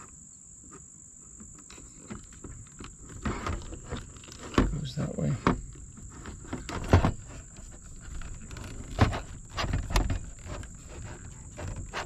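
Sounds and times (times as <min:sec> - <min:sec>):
light rustling: 0:01.4 - 0:12.0.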